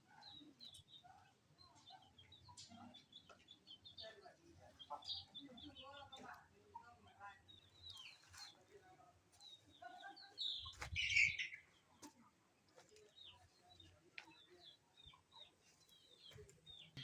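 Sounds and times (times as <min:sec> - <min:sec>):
chickens chirping: 0:00.0 - 0:12.1, 0:13.0 - 0:17.0.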